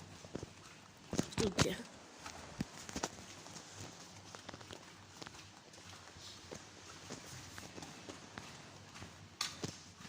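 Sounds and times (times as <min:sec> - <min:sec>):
soft footsteps: 0:00.0 - 0:10.0.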